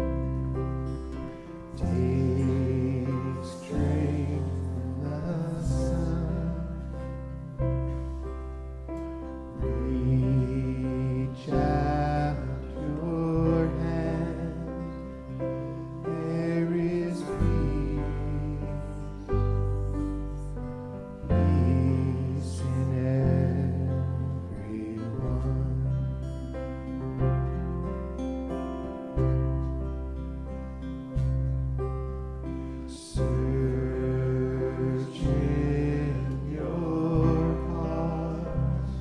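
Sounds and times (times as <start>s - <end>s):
sustained bass notes: 0.0s - 39.0s.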